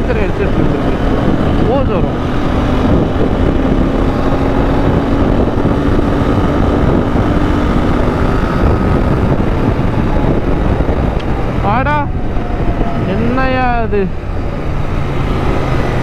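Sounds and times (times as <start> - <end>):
motorcycle engine and road drone: 0.0 - 16.0
wind rushing over microphone: 0.0 - 16.0.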